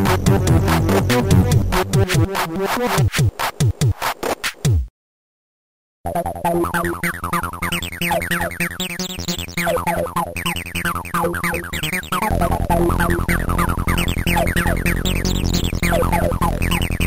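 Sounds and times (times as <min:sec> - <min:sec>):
electronic synth music: 0:00.0 - 0:03.0, 0:06.1 - 0:17.0.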